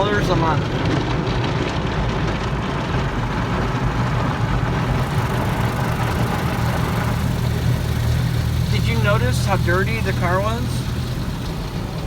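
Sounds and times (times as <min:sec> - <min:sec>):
car engine idling: 0:00.0 - 0:12.0
car wash machinery rumbling: 0:00.0 - 0:12.0.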